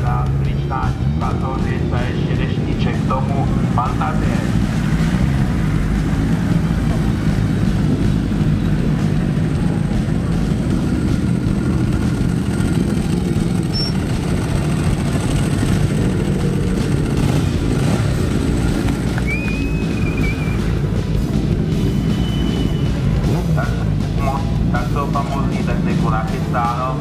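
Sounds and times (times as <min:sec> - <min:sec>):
motorcycle engines at low revs: 0:00.0 - 0:27.0.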